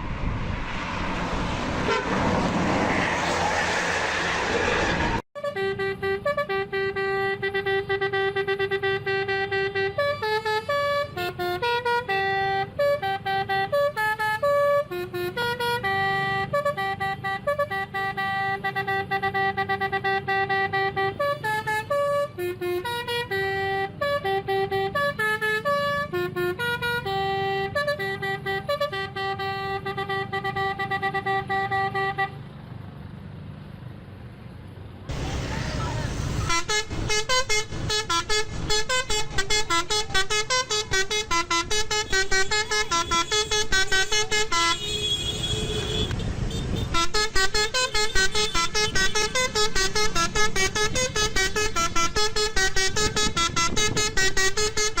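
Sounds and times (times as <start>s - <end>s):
musical bus horn melody: 1.8s - 2.2s, 5.4s - 32.6s, 35.1s - 55.0s.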